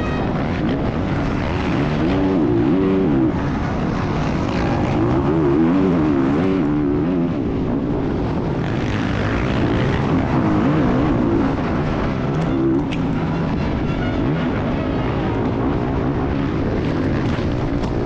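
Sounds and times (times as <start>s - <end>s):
dirt bike engine revving: 0.0s - 7.6s, 8.2s - 17.7s
steady rush of noise: 0.0s - 18.0s.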